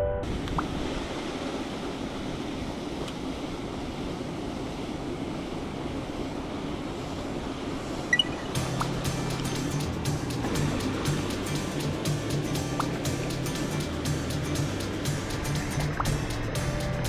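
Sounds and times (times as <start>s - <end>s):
stream water rushing: 0.3s - 17.0s.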